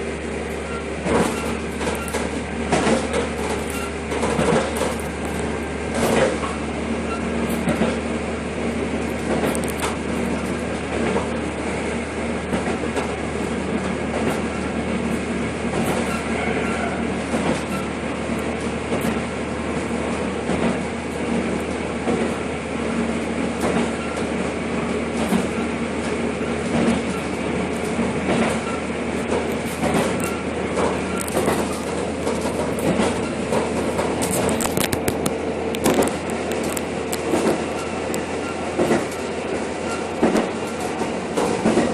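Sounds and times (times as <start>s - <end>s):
train running gear rumble: 0.0s - 41.9s
wheels clickety-clack on rail joints: 0.0s - 41.9s.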